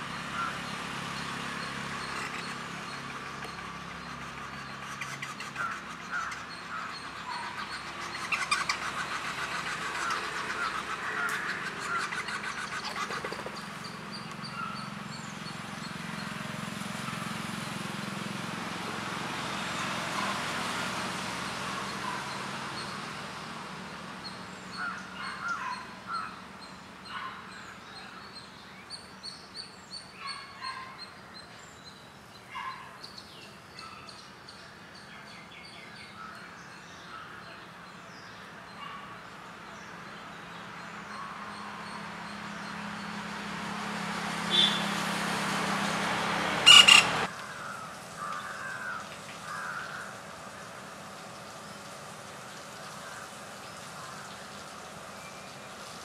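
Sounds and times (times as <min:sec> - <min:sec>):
birds chirping and calling: 0:00.0 - 0:18.0, 0:21.6 - 0:43.4, 0:44.3 - 0:56.0.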